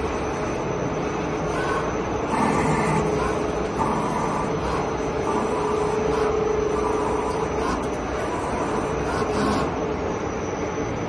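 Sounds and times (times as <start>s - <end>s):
lathe machine hum: 0.0s - 11.0s
mechanical noise: 0.0s - 11.0s.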